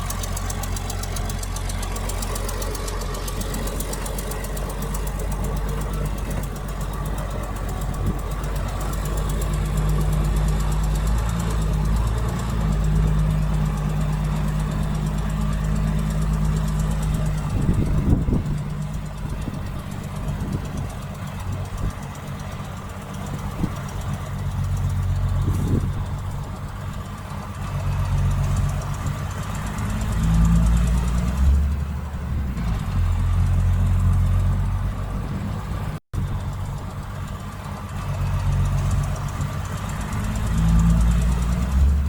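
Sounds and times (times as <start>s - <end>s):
heavy diesel machinery engine: 0.0s - 42.0s.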